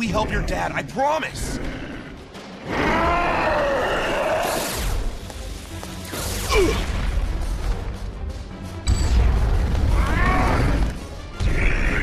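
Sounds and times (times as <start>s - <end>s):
dramatic music: 0.0s - 12.0s.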